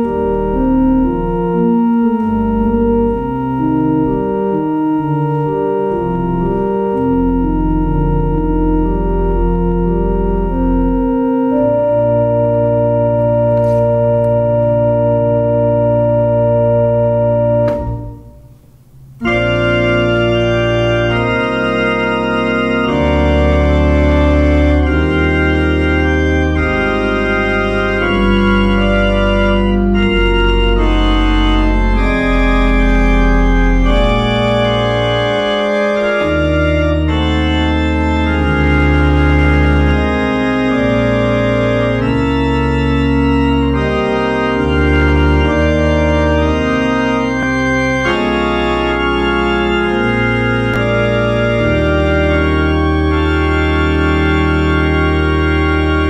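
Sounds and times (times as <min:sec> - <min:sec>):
organ playing slow chords: 0:00.0 - 0:56.0.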